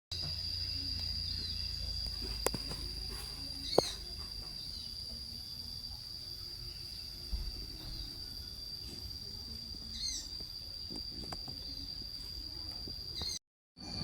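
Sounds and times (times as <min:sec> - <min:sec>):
insects droning: 0:00.1 - 0:14.0
birds chirping: 0:00.2 - 0:13.4.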